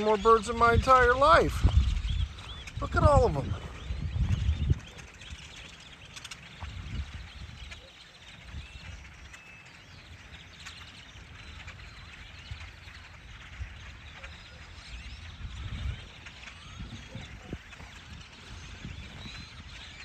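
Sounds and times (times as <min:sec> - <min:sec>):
flock of birds chirping: 0:00.0 - 0:20.0.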